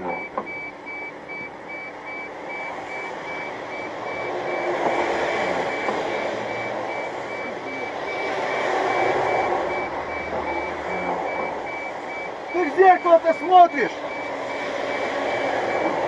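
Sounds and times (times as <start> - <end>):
rapid high electronic beeps: 0.0 - 16.0
vehicle engine and road noise: 0.0 - 16.0.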